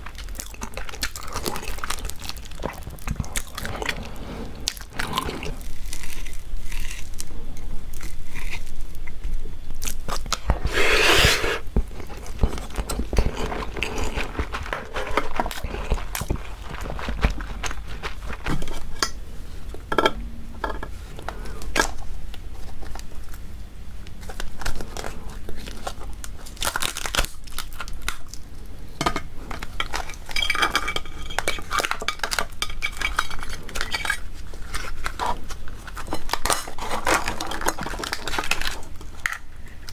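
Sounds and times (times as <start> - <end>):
chewing and crunching: 0.0 - 19.8, 21.1 - 28.8, 29.4 - 39.9.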